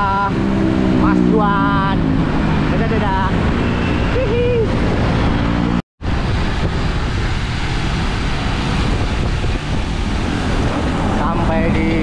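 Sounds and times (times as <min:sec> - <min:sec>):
road traffic rumble: 0:00.0 - 0:12.0
wind buffeting microphone: 0:01.8 - 0:12.0.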